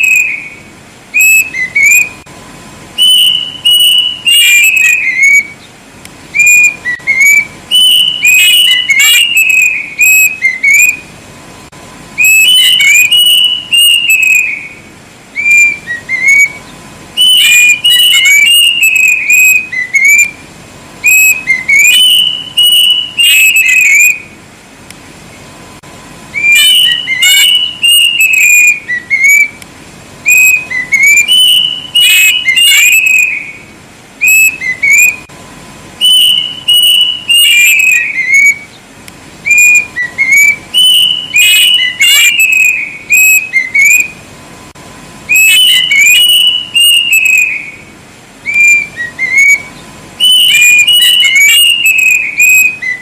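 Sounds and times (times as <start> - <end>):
cuckoo whistled song: 0.0 - 2.3, 3.0 - 5.7, 6.3 - 11.1, 12.2 - 20.4, 21.0 - 24.4, 26.3 - 29.6, 30.2 - 35.3, 36.0 - 38.8, 39.4 - 44.2, 45.3 - 53.0.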